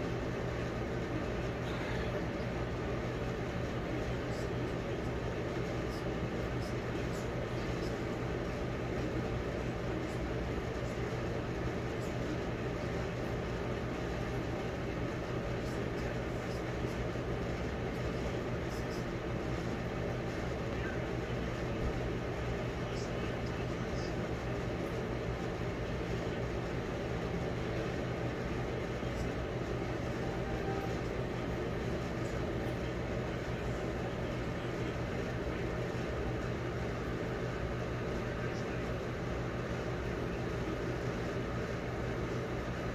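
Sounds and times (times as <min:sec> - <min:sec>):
low appliance hum with hiss: 0:00.0 - 0:42.9.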